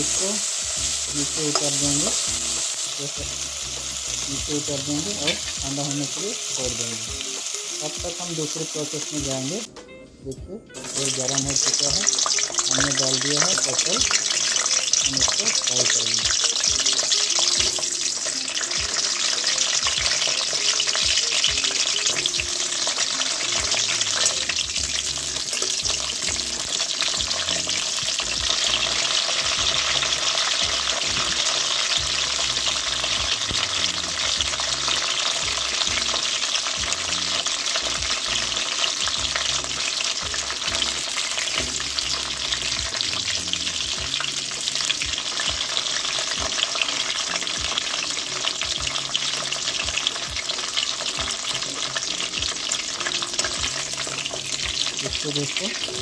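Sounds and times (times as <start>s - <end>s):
food sizzling in oil: 0.0s - 9.7s, 10.8s - 56.0s.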